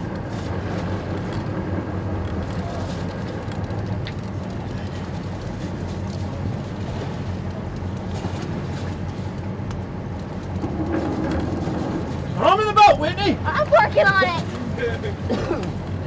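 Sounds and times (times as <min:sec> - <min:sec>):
boat engine idling: 0:00.0 - 0:16.0
water noise: 0:00.0 - 0:16.0
wind: 0:00.0 - 0:16.0.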